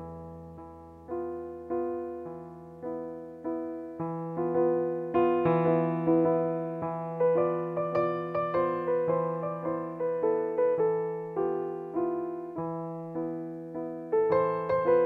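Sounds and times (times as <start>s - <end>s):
digital piano notes: 0.0s - 15.0s.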